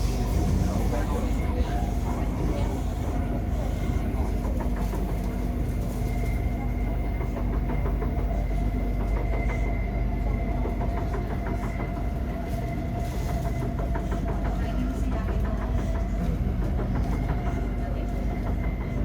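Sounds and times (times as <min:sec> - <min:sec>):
train rumble on track: 0:00.0 - 0:19.0.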